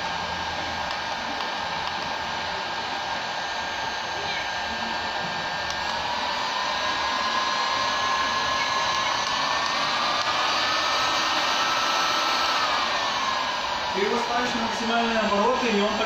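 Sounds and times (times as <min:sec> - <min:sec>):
heat gun air rushing: 0:00.0 - 0:16.0
motor whine rising in pitch: 0:00.0 - 0:16.0.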